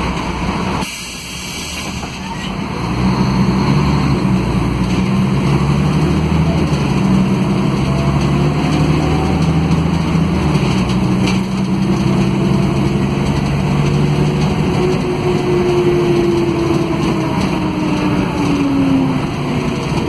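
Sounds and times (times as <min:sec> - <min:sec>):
bus diesel engine from inside: 0:00.0 - 0:20.0.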